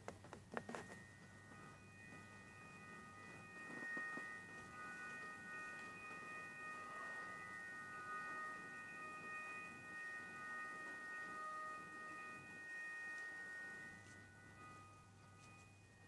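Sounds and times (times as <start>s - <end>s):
eerie high ringing chord: 0.6s - 16.0s.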